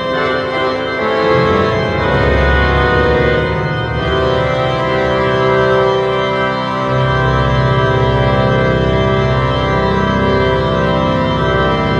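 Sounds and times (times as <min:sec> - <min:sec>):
pipe organ chords: 0:00.0 - 0:11.9.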